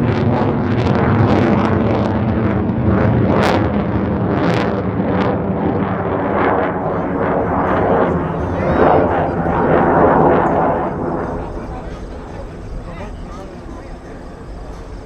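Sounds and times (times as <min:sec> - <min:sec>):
fighter jet passing: 0:00.0 - 0:15.0.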